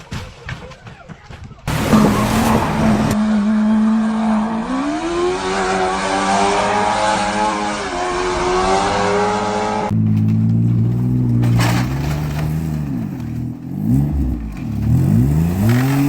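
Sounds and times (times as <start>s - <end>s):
engine revving: 1.7s - 16.0s.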